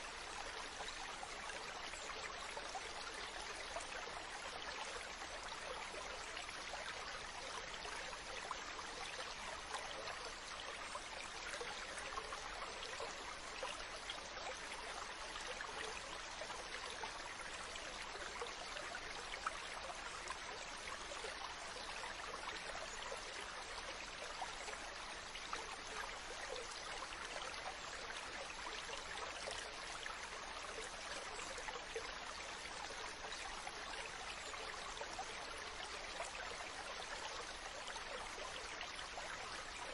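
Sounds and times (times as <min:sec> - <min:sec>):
water babbling like a stream: 0:00.0 - 0:39.9.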